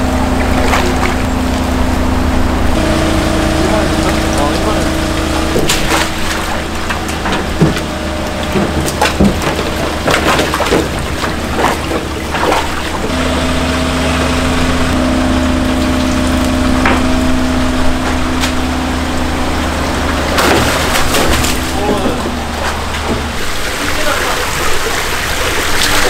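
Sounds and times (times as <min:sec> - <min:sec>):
net knocking tank: 0:00.0 - 0:02.0, 0:02.7 - 0:19.1, 0:19.8 - 0:26.0
pump hum: 0:00.0 - 0:26.0
water splashing in a tank: 0:00.0 - 0:26.0.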